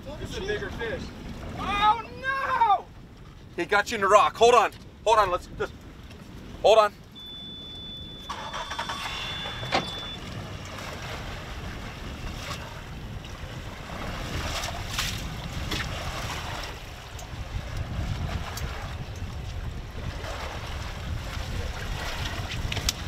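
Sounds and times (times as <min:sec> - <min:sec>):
wind buffeting microphone: 0:00.0 - 0:08.3, 0:09.3 - 0:23.0
water slapping boat: 0:00.0 - 0:23.0.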